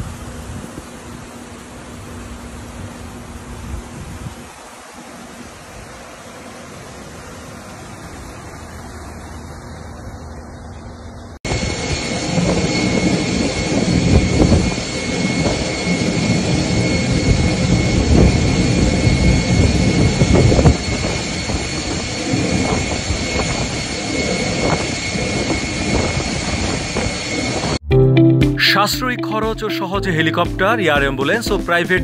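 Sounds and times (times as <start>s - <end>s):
jet engines rumbling and whining: 0.1s - 27.8s.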